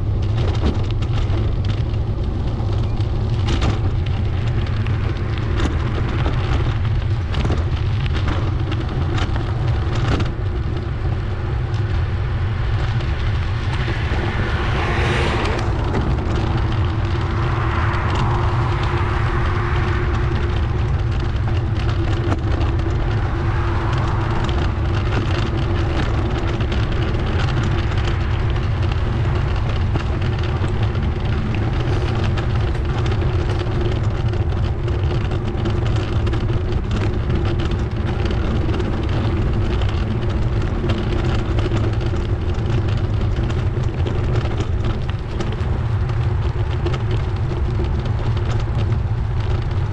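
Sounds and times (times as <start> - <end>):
bicycle rolling noise: 0.0 - 49.9
wind rumbling on microphone: 0.0 - 49.9.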